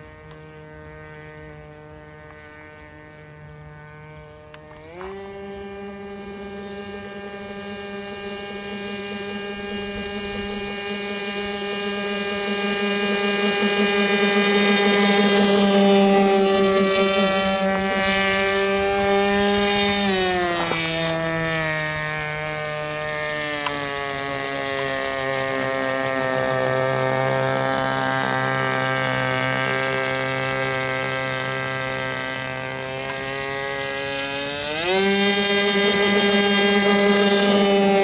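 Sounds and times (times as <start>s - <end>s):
model boat engine and propeller: 0.0s - 38.0s.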